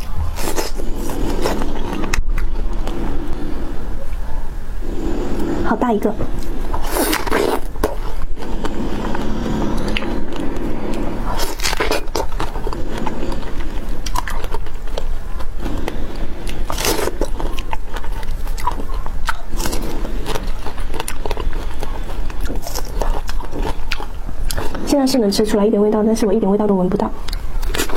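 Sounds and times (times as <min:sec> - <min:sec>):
chewing: 0:00.0 - 0:25.4, 0:27.2 - 0:27.9.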